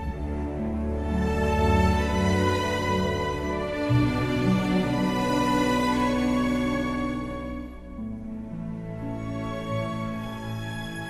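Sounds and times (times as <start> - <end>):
slow gentle background music: 0.0 - 11.0.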